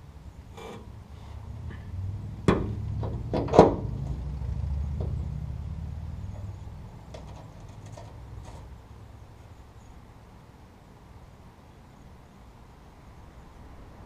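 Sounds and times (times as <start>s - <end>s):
low steady rumble: 0.0s - 11.4s.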